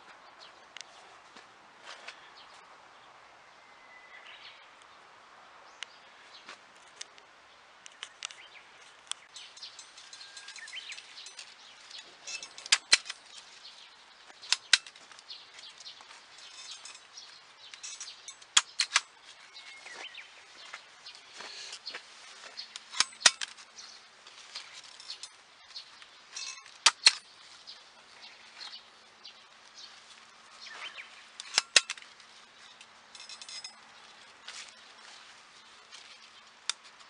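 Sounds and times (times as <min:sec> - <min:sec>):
leaves rustling: 0:05.8 - 0:37.0.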